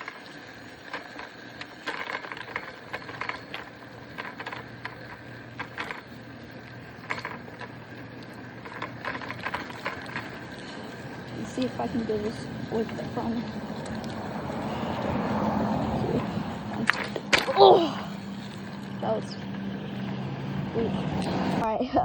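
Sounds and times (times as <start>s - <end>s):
bicycle rattling and clicking: 0.0s - 22.0s
steady background hiss: 0.0s - 22.0s.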